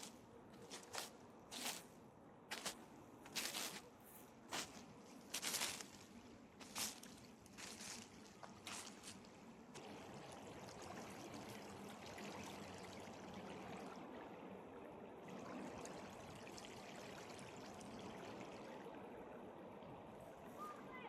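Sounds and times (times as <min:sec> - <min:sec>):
faint flowing water: 0:00.0 - 0:21.0.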